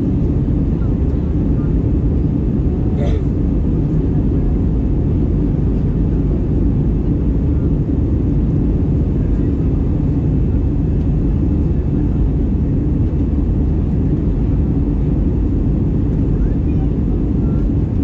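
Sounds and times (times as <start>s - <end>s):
jet engines roaring in cabin: 0.0s - 18.0s.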